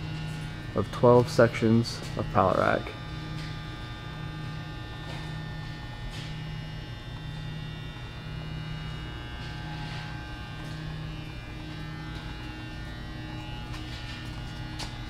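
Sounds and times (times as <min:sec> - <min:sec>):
electrical hum: 0:00.0 - 0:15.0
pulsing low hum: 0:00.0 - 0:15.0.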